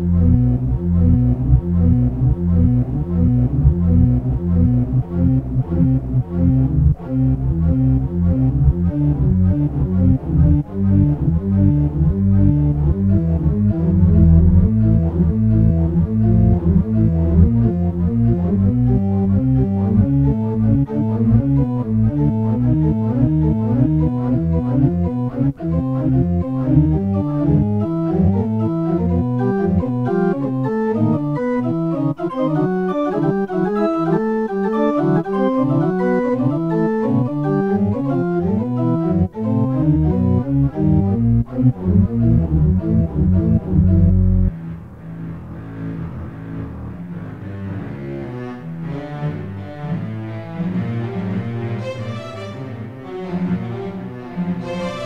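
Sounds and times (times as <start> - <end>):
fast electro-acoustic piano music: 0.0 - 44.6.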